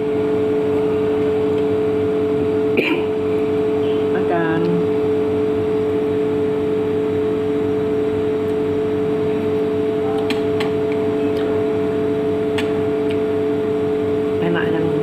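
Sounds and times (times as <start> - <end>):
machine hum with pitched tone: 0.0 - 15.0.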